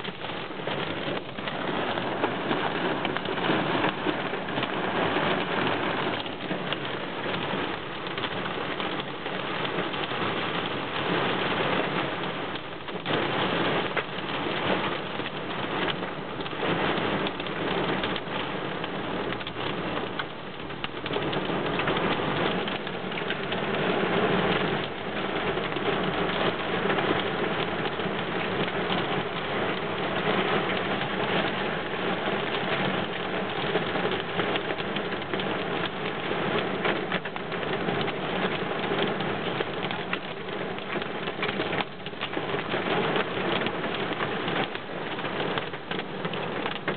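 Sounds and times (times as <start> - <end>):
heavy rain on car roof: 0.0 - 46.9.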